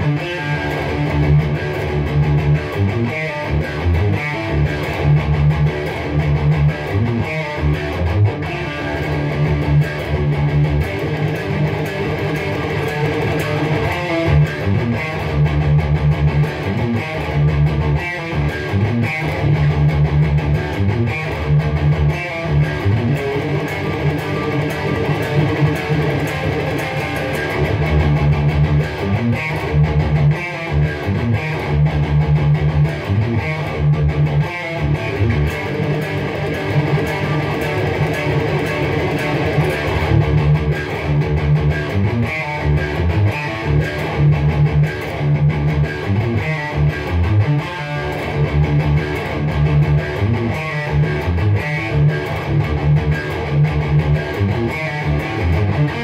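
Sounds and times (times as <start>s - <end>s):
distorted electric guitar riffs: 0.0s - 56.0s.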